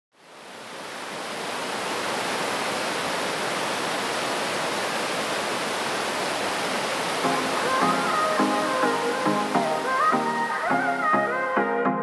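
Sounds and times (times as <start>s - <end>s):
ocean surf: 0.3s - 11.9s.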